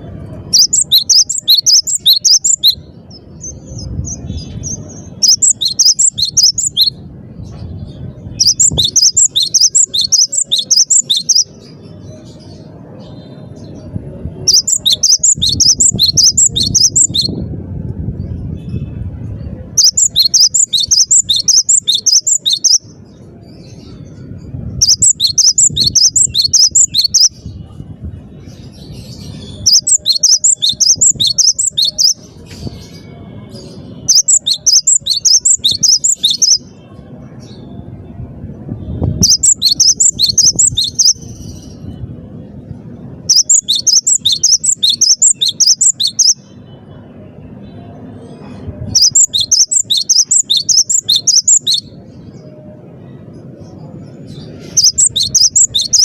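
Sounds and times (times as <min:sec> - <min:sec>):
low background rumble: 0:00.0 - 0:56.0.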